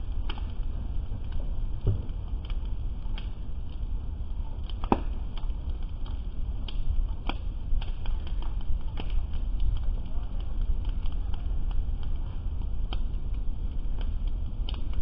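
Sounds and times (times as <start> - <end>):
burning boats crackling and popping: 0.0 - 15.0
low fire rumble: 0.0 - 15.0.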